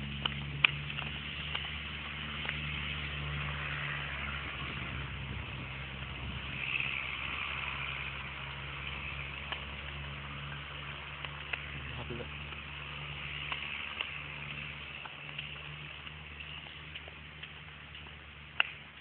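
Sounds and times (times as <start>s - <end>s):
road noise hiss: 0.0s - 19.0s
vehicle engine hum: 0.0s - 19.0s.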